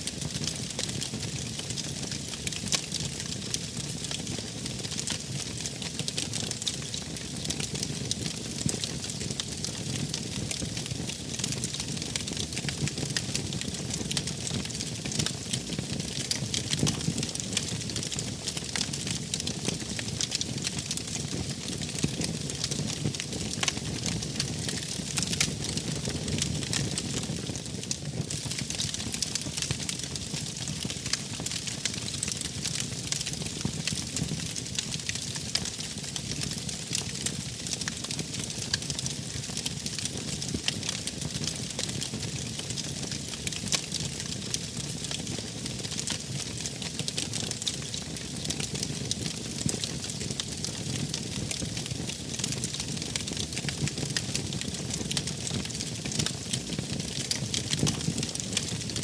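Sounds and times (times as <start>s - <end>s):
wood fire crackling and popping: 0.0s - 59.0s
low rumble of flames: 0.1s - 59.0s.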